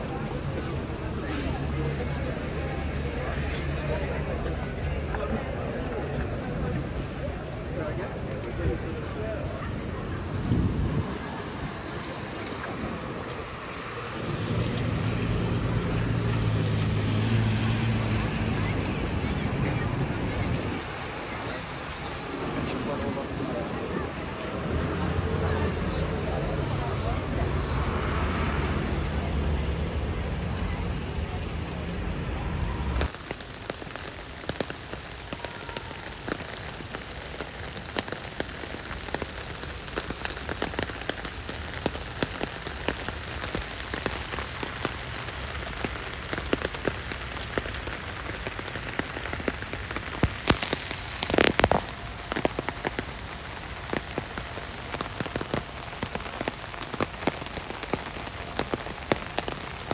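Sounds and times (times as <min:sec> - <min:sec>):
rain pattering on window glass: 0:00.0 - 0:59.9
wet street traffic rumbling: 0:00.0 - 0:59.9.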